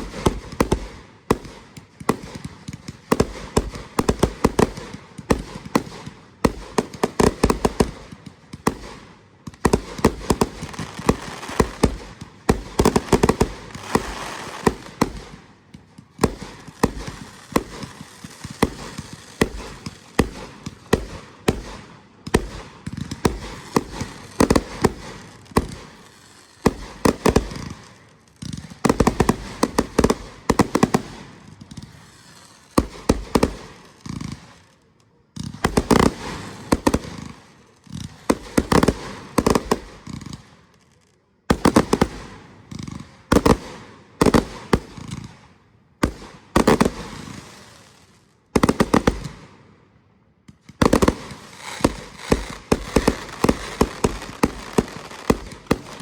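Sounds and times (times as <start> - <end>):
fireworks banging: 0.0 - 34.5, 35.4 - 37.4, 41.5 - 45.3, 46.0 - 48.0, 48.6 - 49.4, 50.5 - 56.0.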